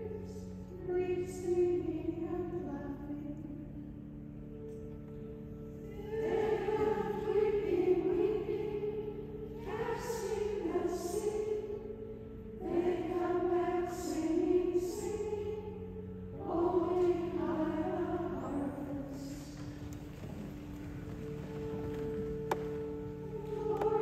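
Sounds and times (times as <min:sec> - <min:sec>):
women singing a hymn: 0:00.0 - 0:03.7, 0:05.8 - 0:20.4, 0:22.0 - 0:24.0
low held accompaniment notes: 0:00.0 - 0:24.0.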